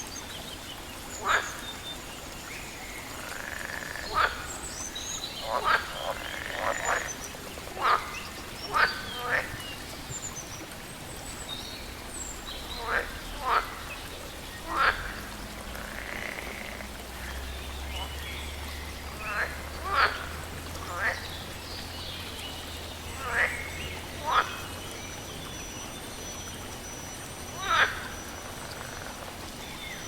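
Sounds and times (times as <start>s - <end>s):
frogs croaking: 0.0s - 30.0s.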